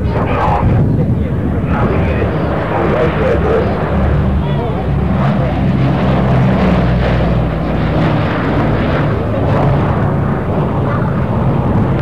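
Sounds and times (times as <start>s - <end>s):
propeller plane engines droning overhead: 0.0s - 12.0s.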